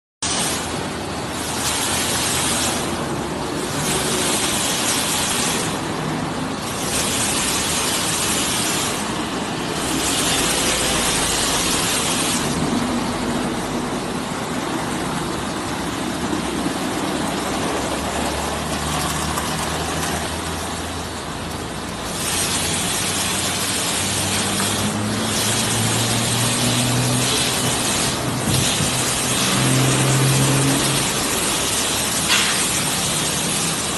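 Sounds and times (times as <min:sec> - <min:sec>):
spinning car wash brushes: 0:00.2 - 0:33.9
steady hiss: 0:00.2 - 0:33.9.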